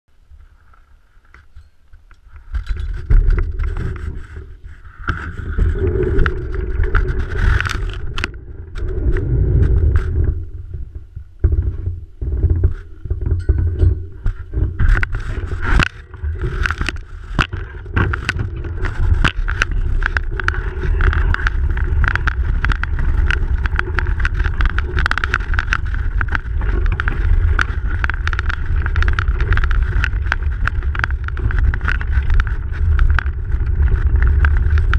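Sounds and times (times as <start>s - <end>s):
bicycle tyres rumbling on snow: 2.3s - 34.9s
wind on microphone: 2.3s - 34.9s
sharp clicks and knocks: 5.0s - 10.3s, 11.4s - 34.9s.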